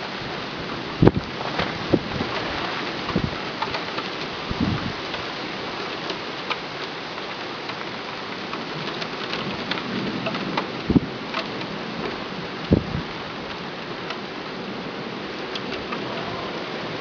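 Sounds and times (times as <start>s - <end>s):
rain falling: 0.0s - 17.0s
raindrops ticking on hard surfaces: 0.0s - 17.0s.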